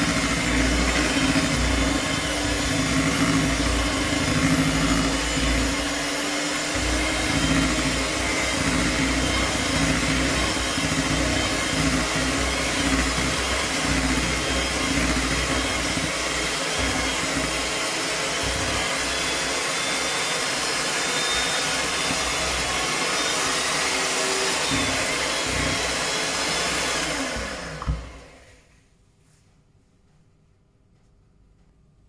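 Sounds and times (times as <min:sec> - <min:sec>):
electric hand mixer whirring: 0:00.0 - 0:28.6
mixer motor winding down: 0:00.0 - 0:28.6.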